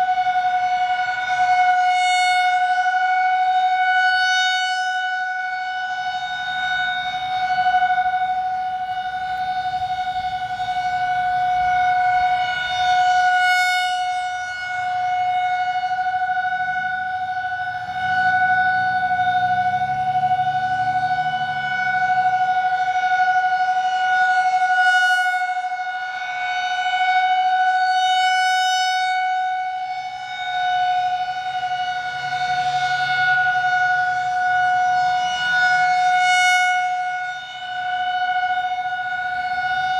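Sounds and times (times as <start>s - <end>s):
rotating siren steady tone: 0.0s - 39.9s.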